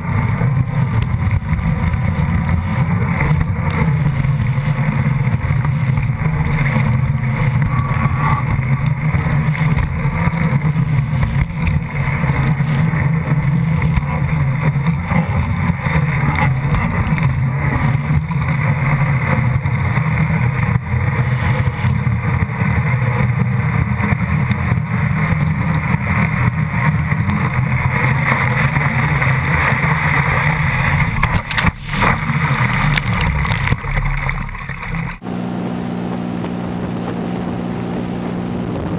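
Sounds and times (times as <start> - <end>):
rushing water and spray: 0.0 - 35.2
motorboat engine drone: 0.0 - 38.9.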